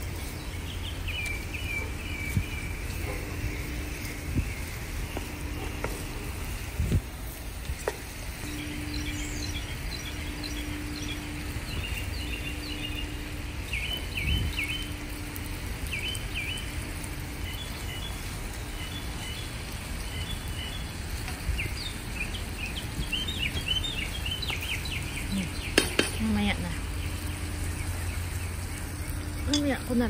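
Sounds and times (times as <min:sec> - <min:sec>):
small birds chirping: 0:00.0 - 0:30.0
wind rumble on microphone: 0:00.0 - 0:30.0.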